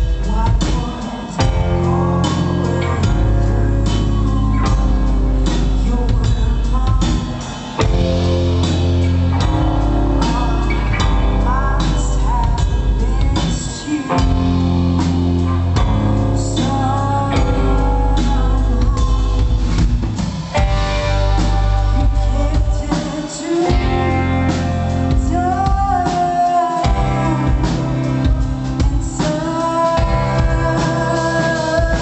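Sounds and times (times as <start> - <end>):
electric guitar: 0.0 - 32.0
person singing: 0.0 - 32.0
bass guitar notes: 1.4 - 23.0, 23.7 - 26.0, 26.9 - 29.2.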